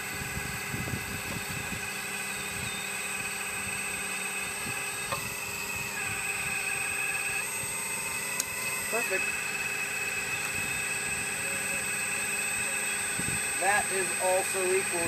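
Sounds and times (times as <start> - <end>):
hydraulic pump whining: 0.0 - 15.0
low hum: 0.0 - 15.0.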